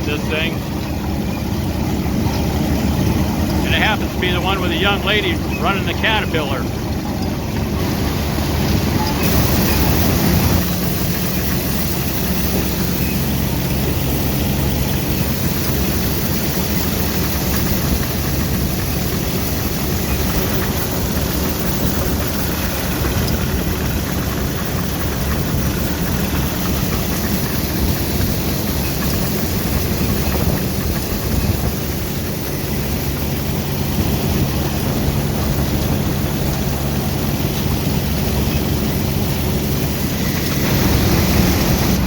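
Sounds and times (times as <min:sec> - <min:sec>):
crawler tractor engine running: 0:00.0 - 0:42.0.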